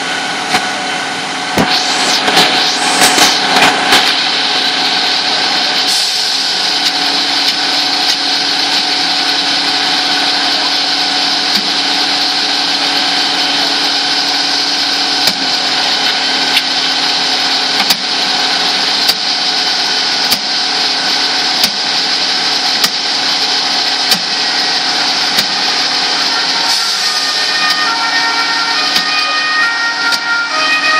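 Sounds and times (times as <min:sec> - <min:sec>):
engine droning: 0:00.0 - 0:30.9.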